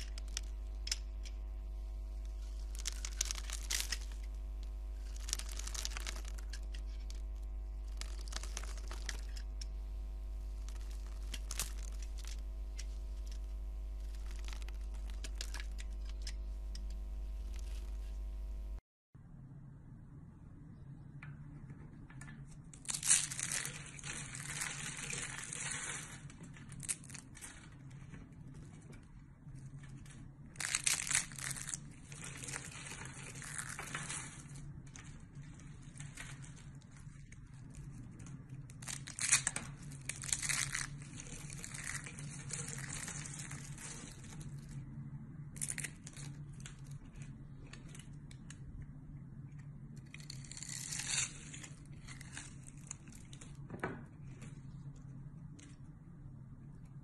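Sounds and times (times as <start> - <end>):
bar soap crunching and crackling: 0.0 - 18.7, 22.7 - 56.0
steady low hum: 0.0 - 57.0.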